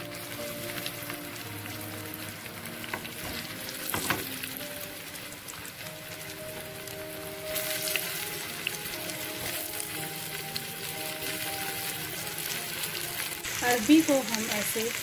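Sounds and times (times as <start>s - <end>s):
food sizzling in hot oil: 0.0s - 15.0s
soft background music: 0.0s - 15.0s.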